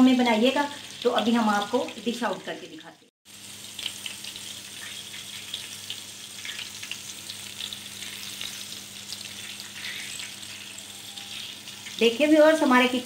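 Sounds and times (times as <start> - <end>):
meat sizzling on hot pan: 0.0 - 13.0.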